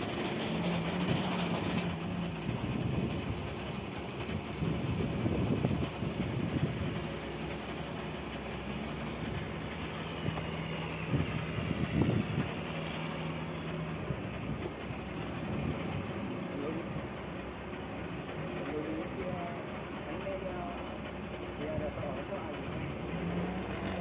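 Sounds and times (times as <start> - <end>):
boat engine humming: 0.0 - 24.0
water rumbling: 0.0 - 24.0
wind: 0.0 - 24.0.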